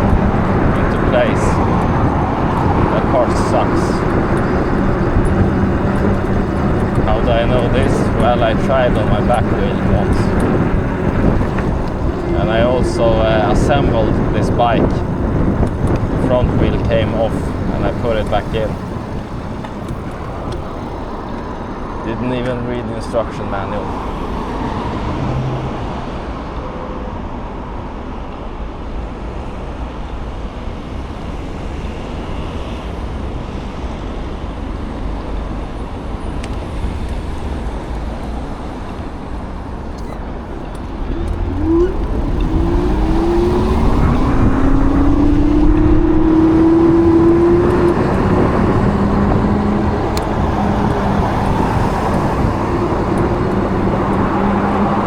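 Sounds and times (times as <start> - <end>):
e-bike riding noise: 0.0 - 27.3, 28.6 - 55.0
road traffic: 0.0 - 55.0.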